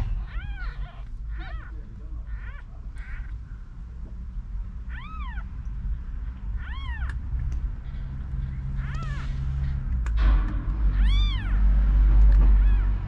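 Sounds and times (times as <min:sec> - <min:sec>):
kittens mewing: 0:00.0 - 0:04.1, 0:04.7 - 0:13.0
steady low rumble: 0:00.0 - 0:13.0.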